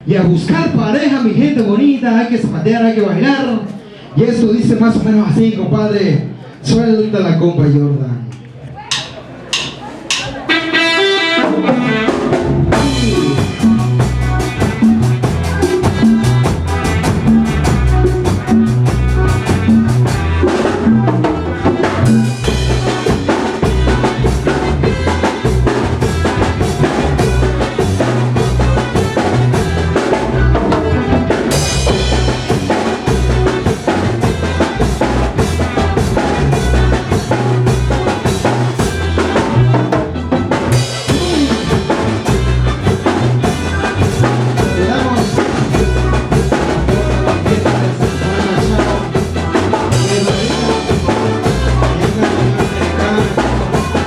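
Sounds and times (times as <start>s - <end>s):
bass: 0.0s - 54.0s
band playing dance music: 8.6s - 54.0s
drum kit beat: 8.8s - 54.0s.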